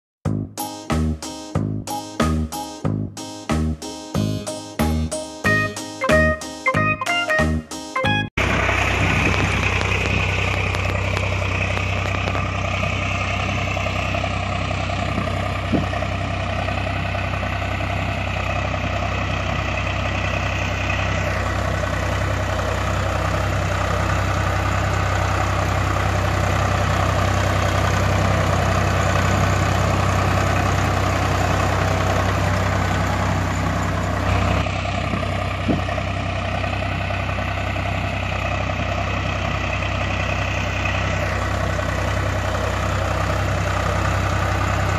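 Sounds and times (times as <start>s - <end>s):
tractor engine idling: 3.6s - 7.1s, 8.0s - 44.9s.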